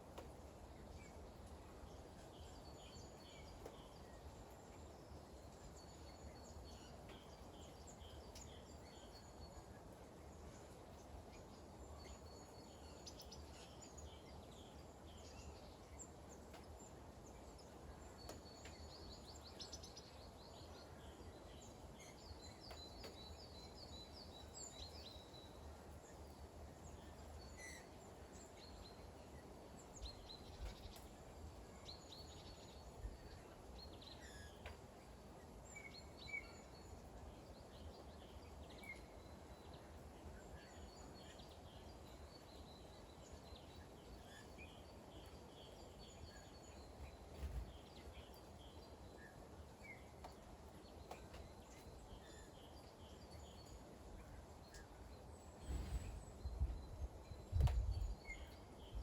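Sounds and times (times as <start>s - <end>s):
light rain patter: 0.0s - 59.0s
small birds chirping and trilling: 0.8s - 59.0s.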